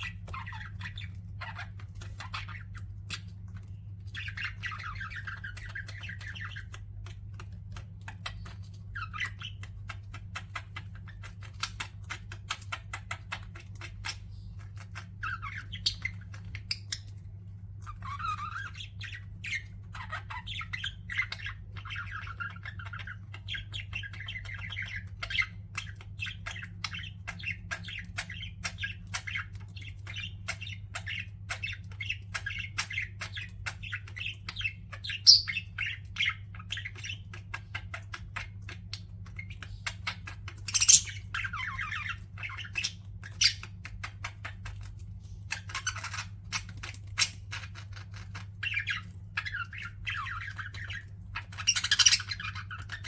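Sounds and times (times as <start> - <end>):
budgerigars chattering: 0.0 - 53.0.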